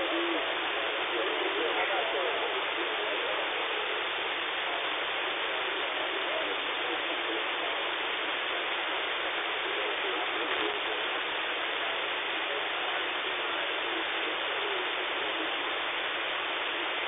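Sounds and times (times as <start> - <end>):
faint wavering radio signal: 0.0 - 17.0
radio static hiss: 0.0 - 17.0.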